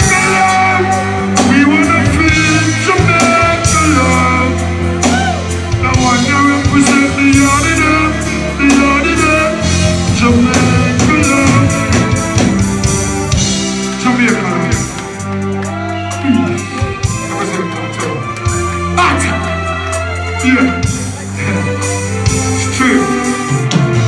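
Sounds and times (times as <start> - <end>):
live reggae band playing: 0.0 - 24.0.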